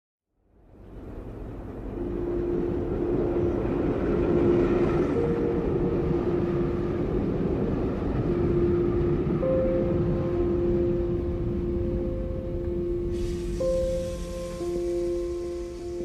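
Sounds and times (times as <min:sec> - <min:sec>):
train low rumble: 0:00.4 - 0:16.0
train hum: 0:00.5 - 0:16.0.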